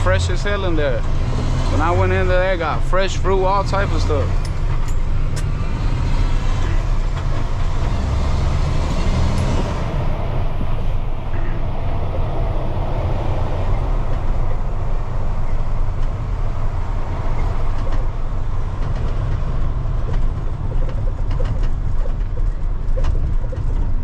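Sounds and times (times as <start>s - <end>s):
road noise inside cab: 0.0s - 24.0s
truck diesel engine rumble: 0.0s - 24.0s.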